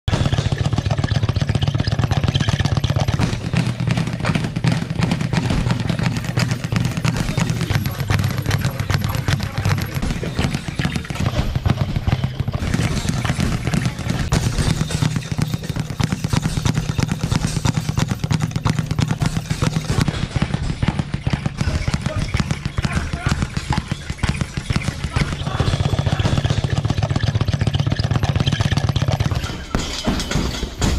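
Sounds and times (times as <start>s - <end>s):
speed bag rattling: 0.0s - 30.9s.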